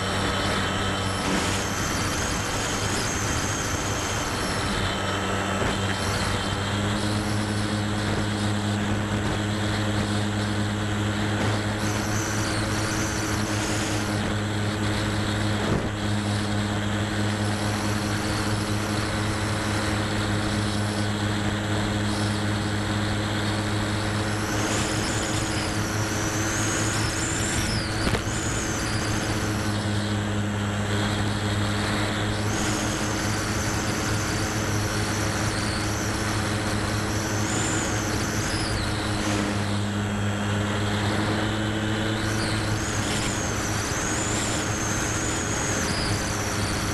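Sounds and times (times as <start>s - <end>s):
electric motor and propeller drone: 0.0s - 46.9s
high whine: 0.0s - 46.9s
rushing air: 0.0s - 46.9s.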